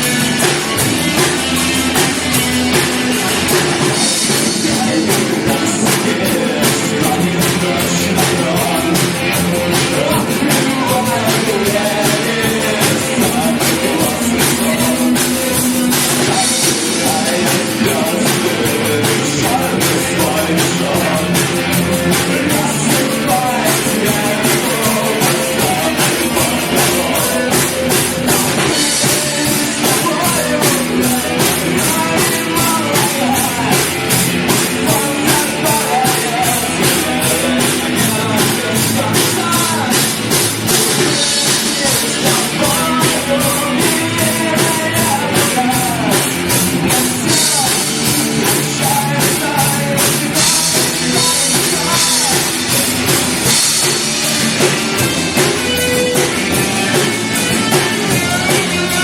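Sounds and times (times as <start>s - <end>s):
drum kit beat: 0.0s - 59.0s
rock band playing live: 0.0s - 59.0s.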